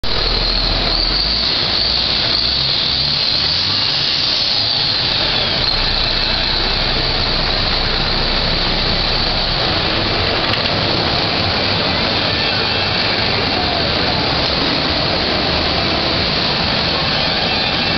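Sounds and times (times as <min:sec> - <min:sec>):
diesel truck engine idling: 0:00.0 - 0:17.9.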